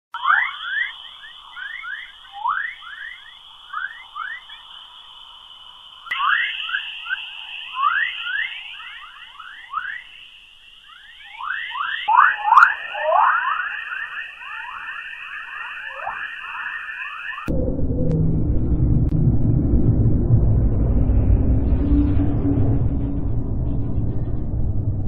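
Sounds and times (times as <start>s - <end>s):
steady high tone: 0.2s - 25.0s.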